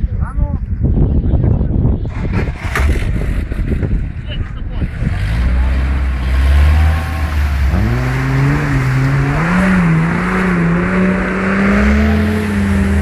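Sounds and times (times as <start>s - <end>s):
vehicle engine revving: 1.9s - 13.0s.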